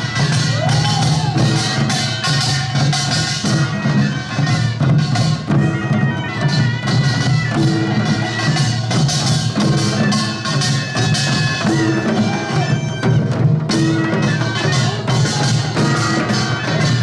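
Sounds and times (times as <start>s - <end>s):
gongs and drums clanging: 0.0s - 17.0s.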